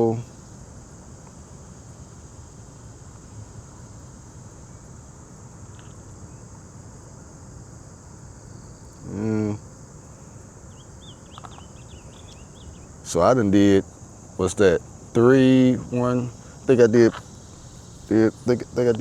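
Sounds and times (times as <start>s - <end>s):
insects chirping: 0.0s - 19.0s
low outdoor rumble: 0.0s - 19.0s.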